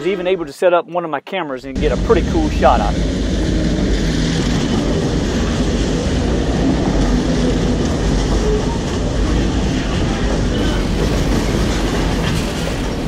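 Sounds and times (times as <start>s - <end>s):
diesel locomotive engine rumble: 1.7s - 13.0s
steel wheels on rails: 1.8s - 13.0s.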